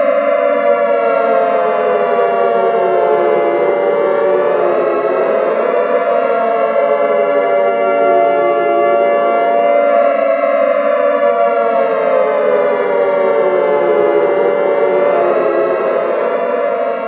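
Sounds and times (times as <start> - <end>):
sirens wailing: 0.0 - 17.0.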